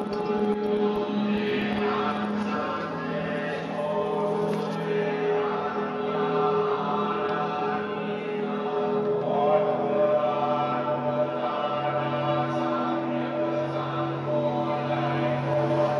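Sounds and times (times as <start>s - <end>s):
choral chant-like tones: 0.0s - 15.9s.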